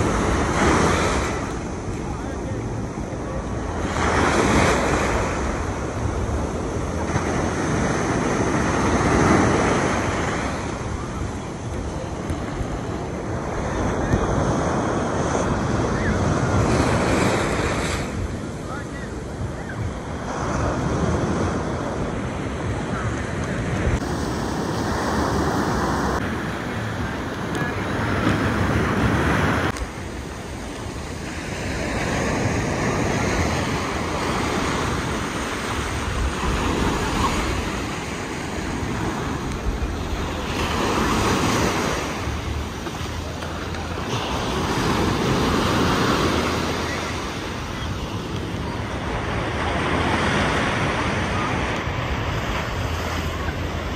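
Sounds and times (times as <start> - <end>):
ocean surf breaking on sand: 0.0 - 53.9.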